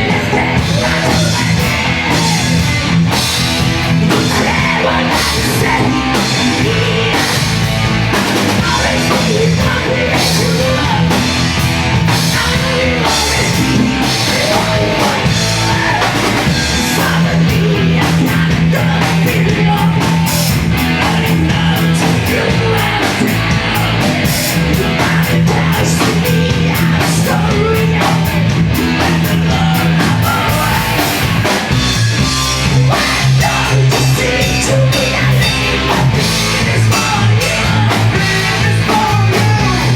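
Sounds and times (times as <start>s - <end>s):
person singing and yelling: 0.0s - 3.1s, 4.0s - 31.3s, 32.6s - 39.9s
distorted rock band playing: 0.0s - 39.9s.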